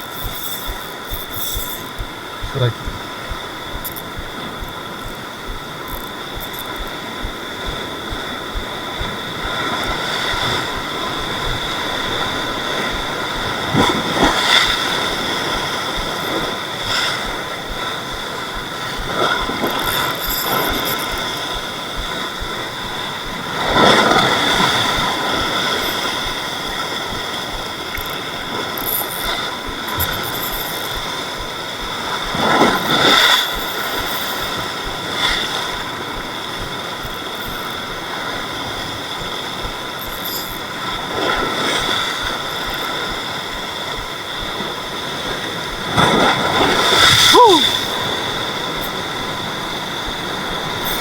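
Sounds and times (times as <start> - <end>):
steady high whine: 0.0 - 46.0
surf washing against rocks: 0.0 - 51.0.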